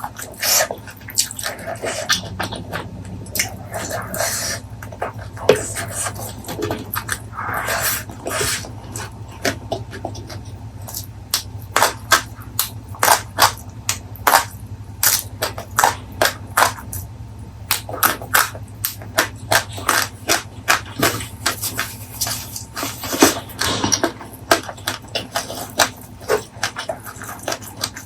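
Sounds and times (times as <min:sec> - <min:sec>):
chewing crunchy food: 0:00.0 - 0:28.0.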